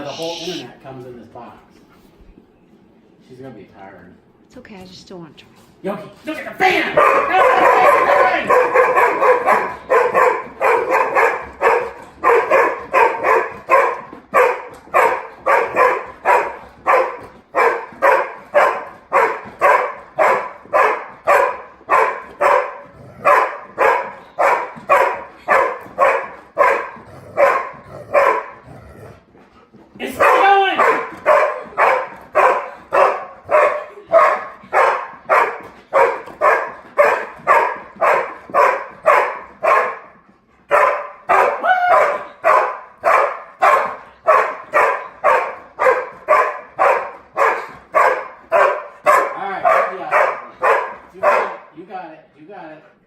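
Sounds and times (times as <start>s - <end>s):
dog yelping: 0.0s - 0.7s, 7.0s - 28.6s, 30.1s - 40.0s, 40.7s - 51.6s
dog barking: 6.9s - 28.6s, 30.1s - 51.7s.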